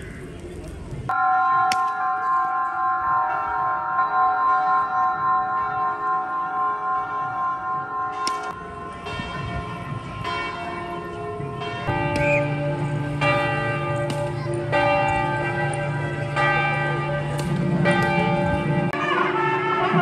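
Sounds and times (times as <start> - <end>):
bells ringing in slow strokes: 1.1 - 20.0.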